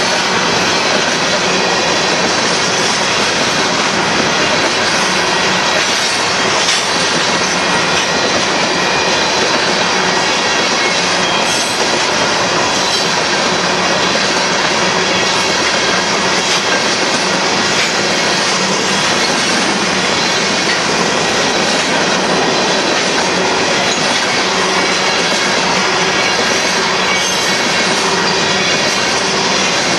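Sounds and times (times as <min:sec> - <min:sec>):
freight train rumbling past: 0:00.0 - 0:29.9.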